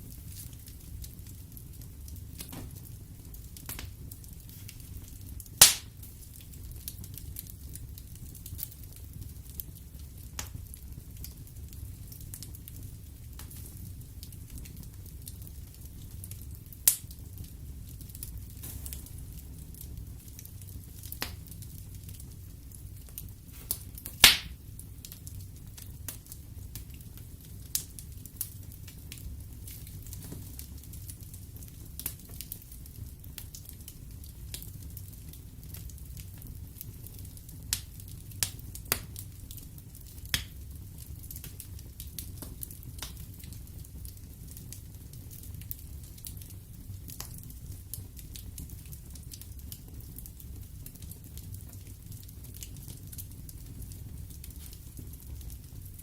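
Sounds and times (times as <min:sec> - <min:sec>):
burning wood crackling: 0:00.0 - 0:56.0
fire rumbling: 0:00.0 - 0:56.0
loud pops from fire: 0:00.0 - 0:56.0.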